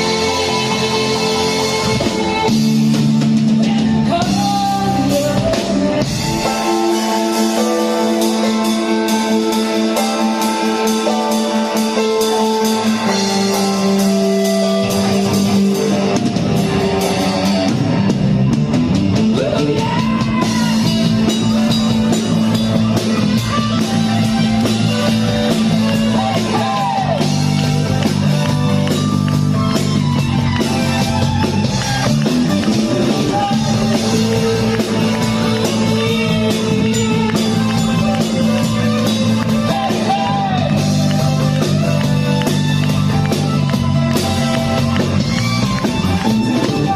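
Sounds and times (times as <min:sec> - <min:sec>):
bass line: 0:00.0 - 0:46.9
drum kit: 0:00.0 - 0:46.9
electric guitar: 0:00.0 - 0:46.9
rock band playing: 0:00.0 - 0:46.9.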